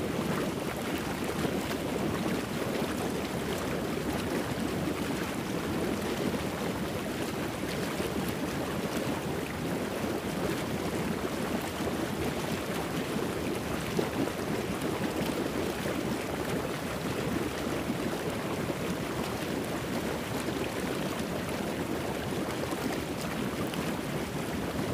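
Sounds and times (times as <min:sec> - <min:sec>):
steady rushing water: 0:00.0 - 0:24.9.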